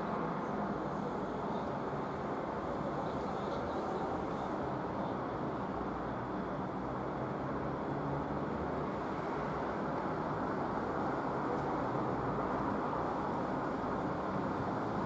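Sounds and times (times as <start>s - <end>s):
low rushing outdoor noise: 0.0s - 15.0s.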